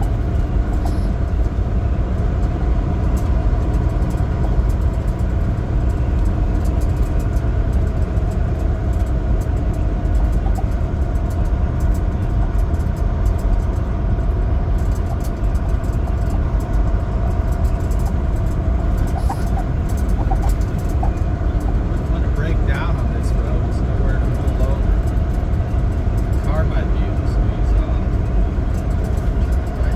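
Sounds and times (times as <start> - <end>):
faint steady drone: 0.0 - 29.9
truck diesel engine rumbling: 0.0 - 29.9.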